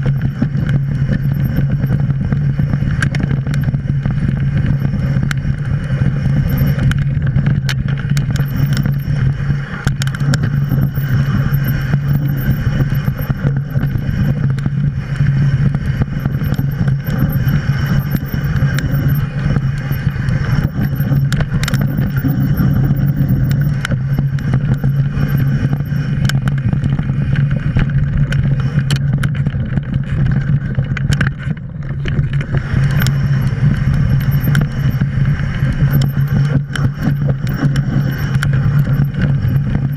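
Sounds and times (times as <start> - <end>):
bike rattling over rocks: 0.0 - 39.9
mountain bike rumbling downhill: 0.0 - 39.9.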